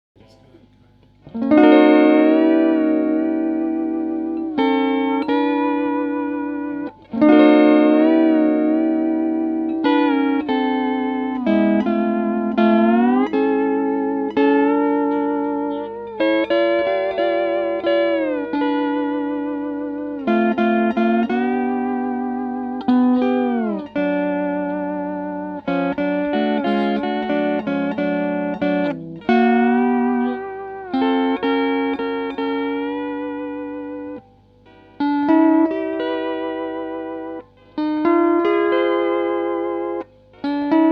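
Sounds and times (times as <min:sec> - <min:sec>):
steel guitar chords: 0:00.2 - 0:40.9.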